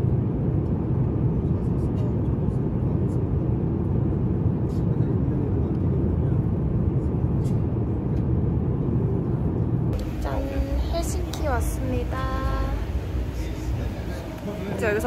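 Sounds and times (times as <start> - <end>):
jet airliner cabin rumble: 0.0 - 15.0.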